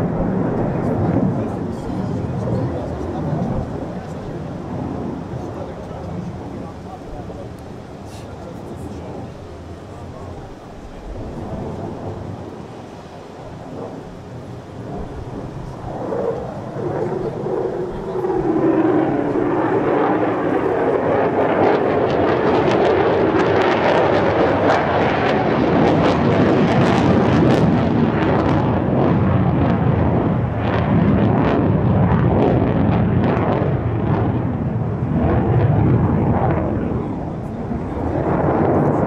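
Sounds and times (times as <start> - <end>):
jet engine roar with crackle: 0.0 - 39.0.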